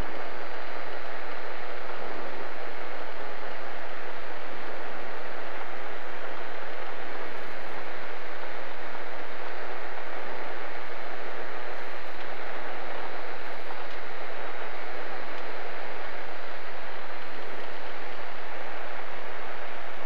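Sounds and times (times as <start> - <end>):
light airplane engine and propeller: 0.0 - 20.0.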